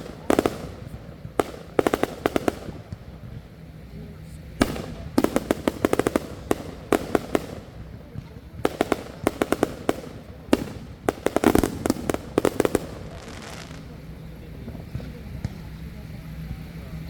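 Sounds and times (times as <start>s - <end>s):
fireworks bangs and pops: 0.0s - 15.8s.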